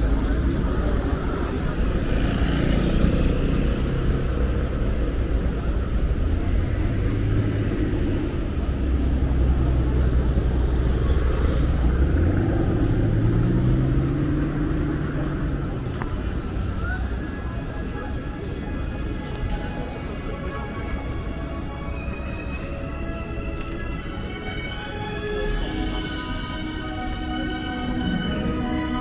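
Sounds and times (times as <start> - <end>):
street traffic: 0.0 - 29.0
vehicle engine running nearby: 0.0 - 29.0.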